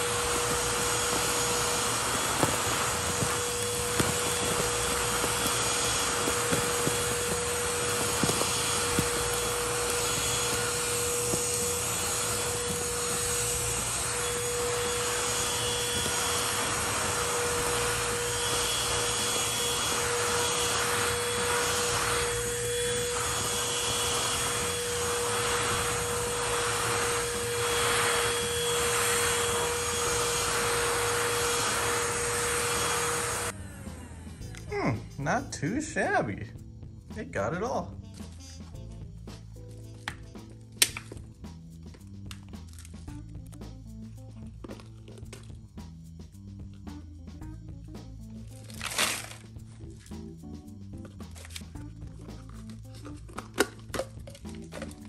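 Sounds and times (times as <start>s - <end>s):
handheld vacuum cleaner running: 0.0s - 39.0s, 44.4s - 45.7s, 48.4s - 55.0s.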